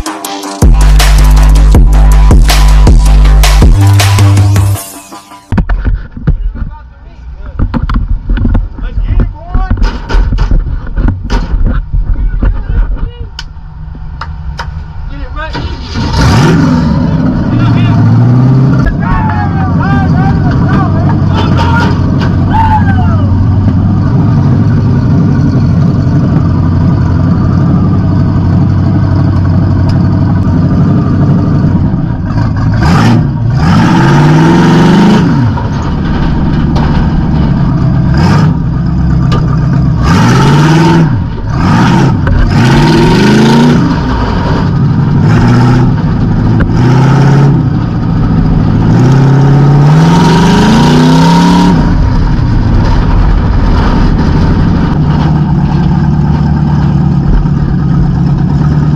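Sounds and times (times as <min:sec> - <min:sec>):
car engine idling and revving: 0:00.0 - 0:58.9.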